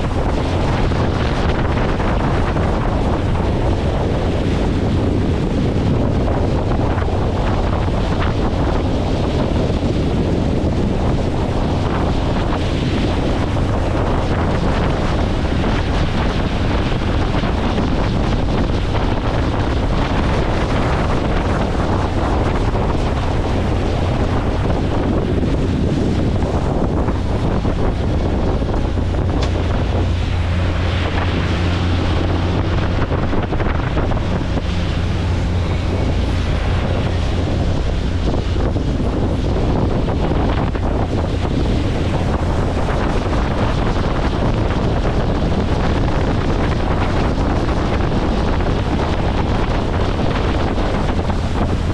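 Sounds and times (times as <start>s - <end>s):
low engine hum: 0.0s - 51.9s
rushing water: 0.0s - 51.9s
wind buffeting microphone: 0.0s - 51.9s.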